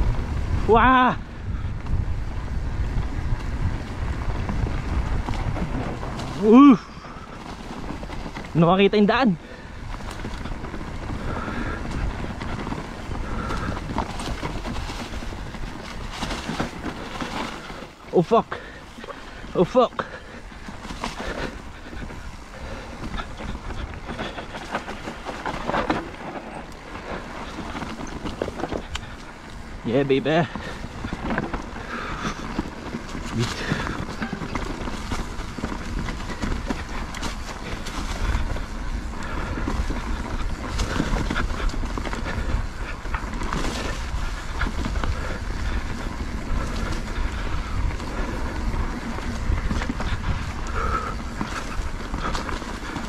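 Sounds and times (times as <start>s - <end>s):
bike knocking and rattling: 0.0s - 53.0s
bike tyres rumbling on dirt: 0.0s - 53.0s.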